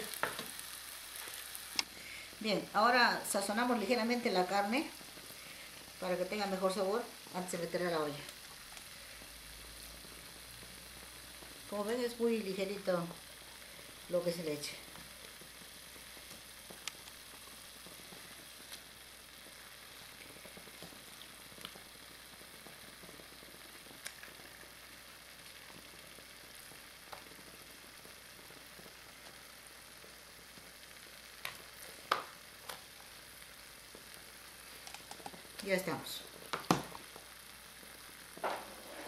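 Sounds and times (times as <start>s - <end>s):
food sizzling in a pot: 0.0s - 39.0s.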